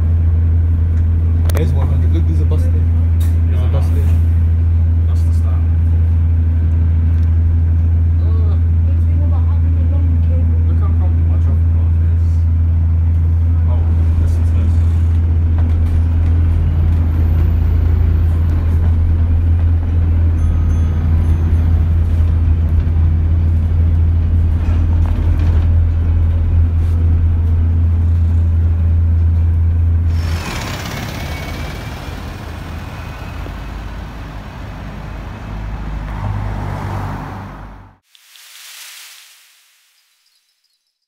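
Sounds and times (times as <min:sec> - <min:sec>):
bus diesel engine drone: 0:00.0 - 0:38.0
street traffic noise: 0:00.0 - 0:38.1.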